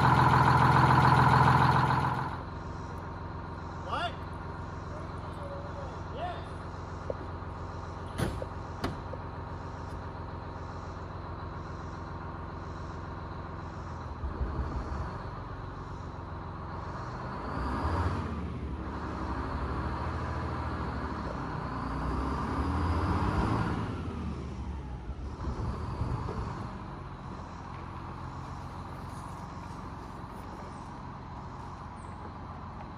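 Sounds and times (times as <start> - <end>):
bus engine running: 0.0 - 32.9.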